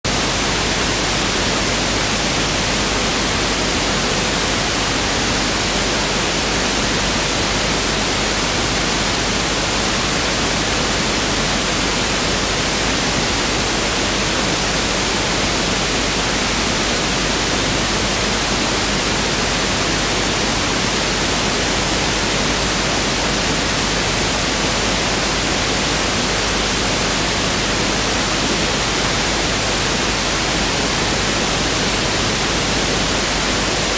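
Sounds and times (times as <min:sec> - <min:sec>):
pink noise hiss: 0:00.1 - 0:33.9.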